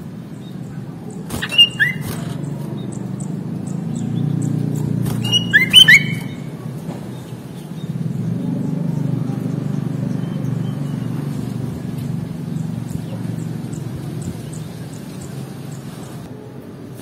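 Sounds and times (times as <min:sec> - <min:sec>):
passing motor vehicle rumble: 0:00.0 - 0:17.0
bird chirps: 0:00.2 - 0:16.3.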